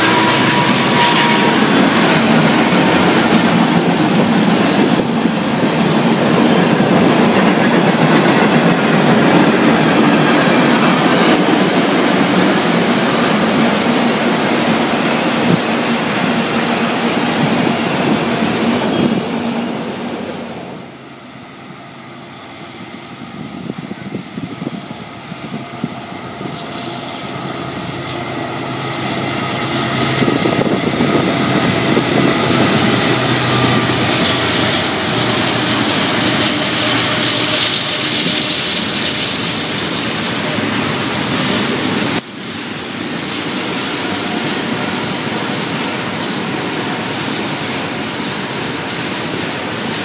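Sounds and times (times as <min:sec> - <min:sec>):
diesel locomotive engine hum: 0:00.0 - 0:50.0
freight cars rumbling on rails: 0:00.0 - 0:50.0.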